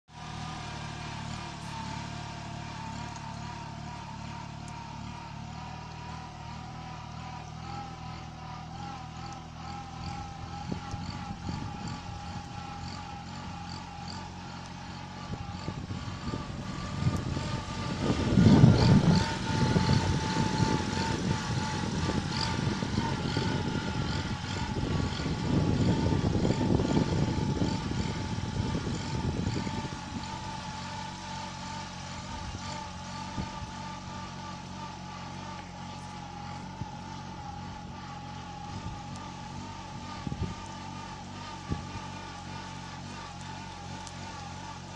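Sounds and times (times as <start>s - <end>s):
tractor diesel engine running: 0.1s - 44.9s
uneven rumble: 0.2s - 44.9s.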